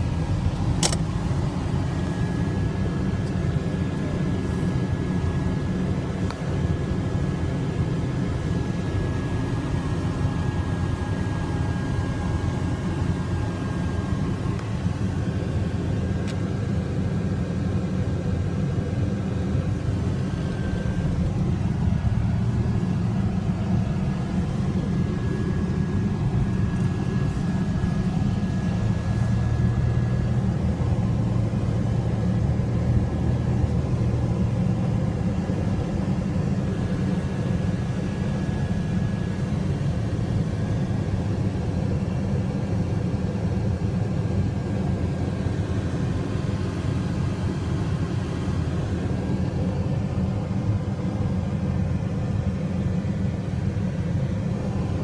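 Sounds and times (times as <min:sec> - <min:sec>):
car engine and tyre rumble: 0:00.0 - 0:55.0
faint high whine: 0:00.0 - 0:55.0.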